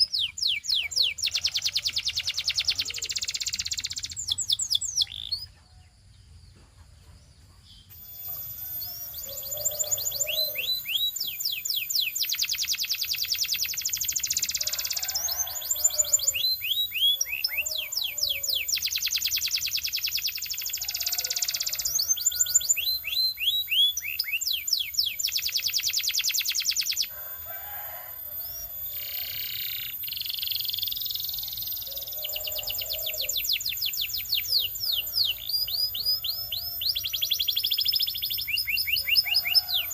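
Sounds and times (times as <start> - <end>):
canary singing trills: 0.0 - 5.9, 7.4 - 39.9.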